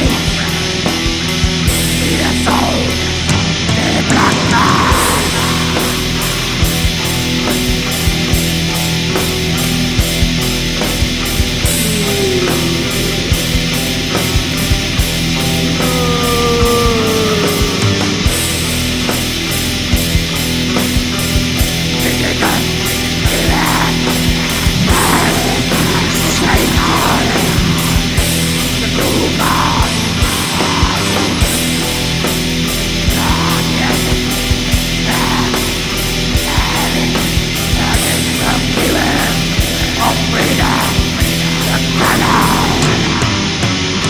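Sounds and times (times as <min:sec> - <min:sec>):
distorted guitars: 0:00.0 - 0:44.0
fast drumming and cymbals: 0:00.0 - 0:44.0.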